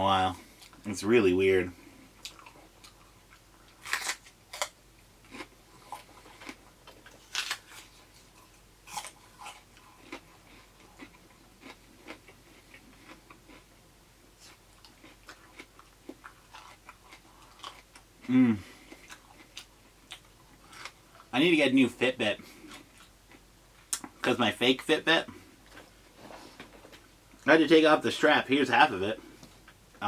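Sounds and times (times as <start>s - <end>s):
crunching raw produce: 0.2s - 13.7s, 14.4s - 26.0s.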